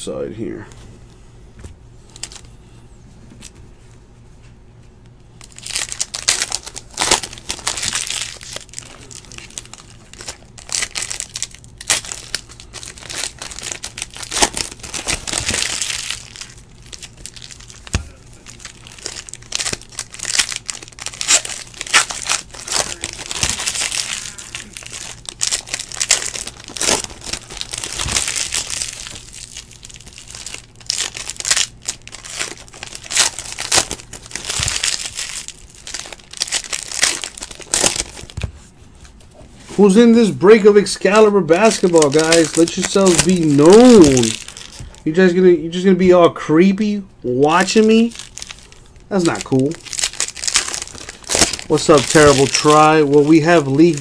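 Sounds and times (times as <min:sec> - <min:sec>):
foil wrappers tearing and crinkling: 0:02.1 - 0:02.5, 0:05.4 - 0:38.5, 0:39.8 - 0:45.8, 0:47.5 - 0:54.0.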